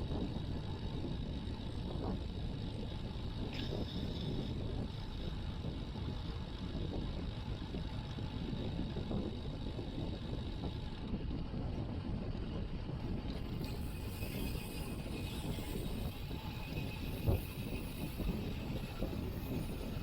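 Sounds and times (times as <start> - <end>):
wind rush on microphone: 0.0 - 20.0.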